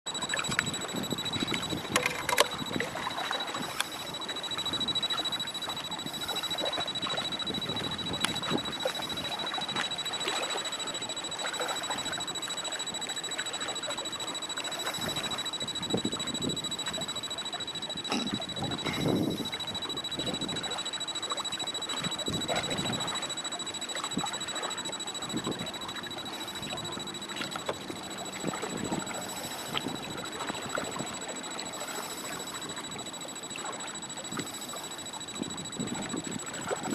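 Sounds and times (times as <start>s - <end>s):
thin high whine: 0.1s - 36.9s
waves splashing and sloshing: 0.2s - 36.9s.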